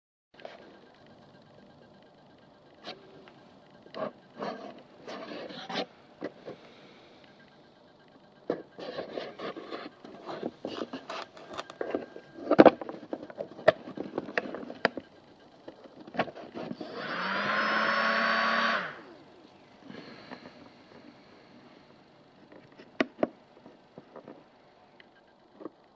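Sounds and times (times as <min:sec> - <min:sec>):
small cooling fan whirring: 0:00.4 - 0:25.9.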